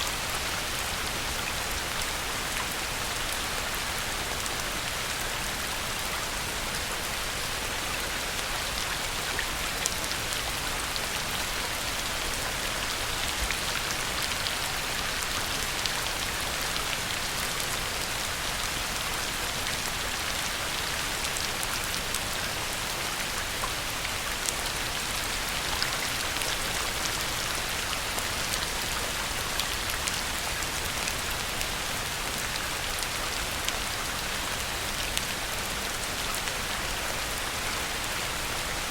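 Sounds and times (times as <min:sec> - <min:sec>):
heavy rain on a pond: 0:00.0 - 0:38.9.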